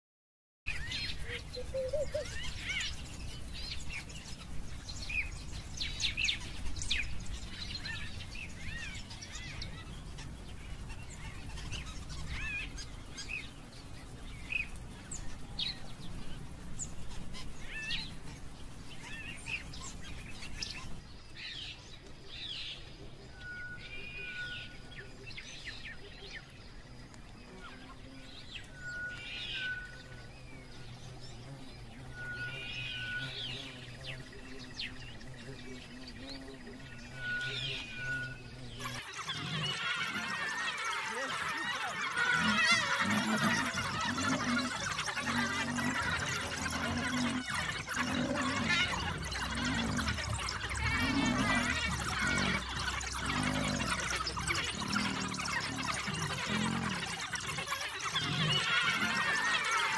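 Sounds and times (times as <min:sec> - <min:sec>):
birds chirping and calling: 0:00.7 - 0:59.9.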